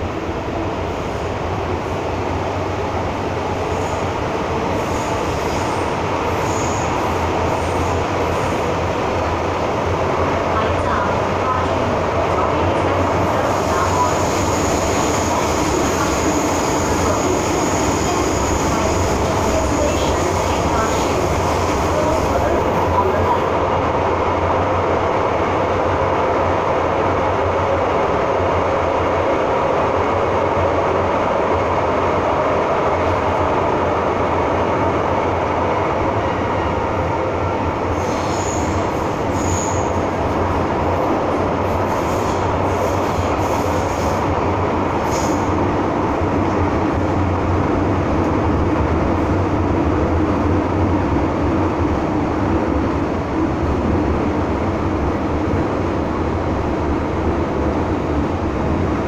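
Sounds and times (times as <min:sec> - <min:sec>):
train rumbling in tunnel: 0:00.0 - 0:59.0.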